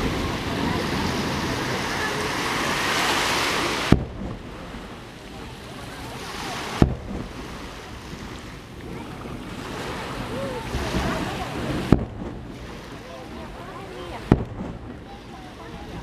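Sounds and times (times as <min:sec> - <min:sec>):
distant firework booms: 0:00.0 - 0:02.7, 0:03.6 - 0:05.5, 0:06.2 - 0:12.9, 0:14.1 - 0:16.0
surf: 0:00.0 - 0:16.0
wind: 0:00.0 - 0:16.0.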